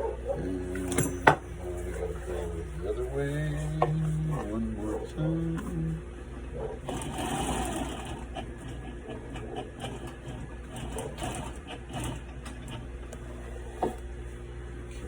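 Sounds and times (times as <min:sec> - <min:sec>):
sewing machine motor hum: 0:00.0 - 0:15.0.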